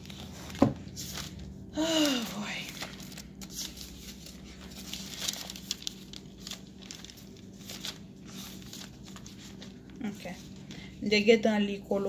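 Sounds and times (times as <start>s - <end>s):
paper pages rustling: 0.0s - 10.9s
faint steady hum: 0.0s - 12.0s.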